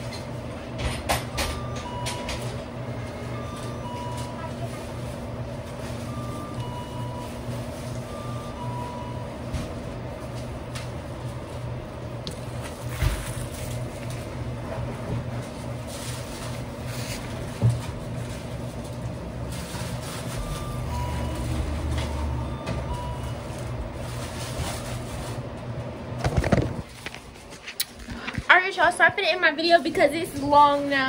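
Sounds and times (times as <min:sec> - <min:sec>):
kitchen equipment hum: 0:00.0 - 0:31.0.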